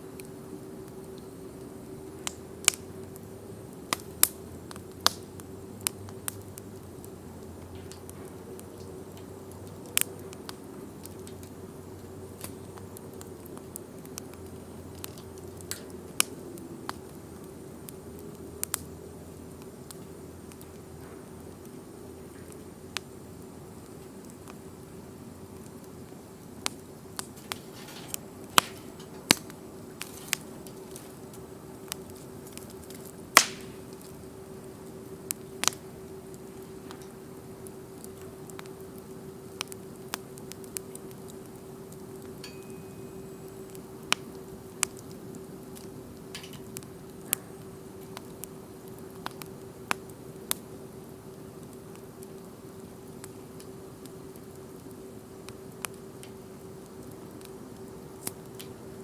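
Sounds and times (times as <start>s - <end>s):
campfire crackling and popping: 0.0s - 59.0s
steady low hum: 0.0s - 59.0s.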